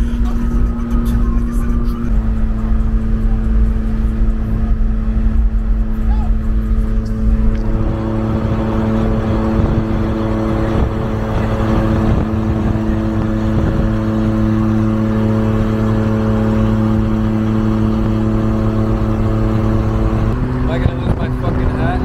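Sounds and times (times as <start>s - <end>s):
road and wind noise: 0.0s - 22.0s
small truck engine humming: 0.0s - 22.0s.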